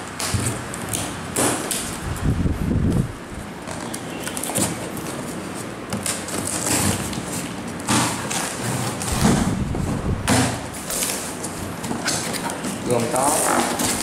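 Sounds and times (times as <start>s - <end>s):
cardboard flaps scraping and rustling: 0.2s - 14.0s.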